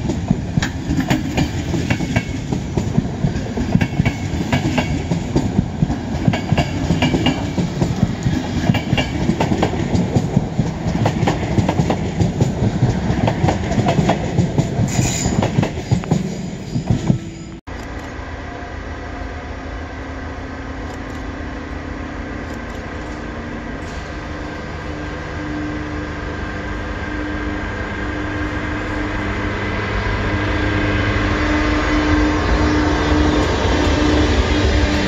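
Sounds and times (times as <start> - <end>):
train running hum: 0.0 - 35.0.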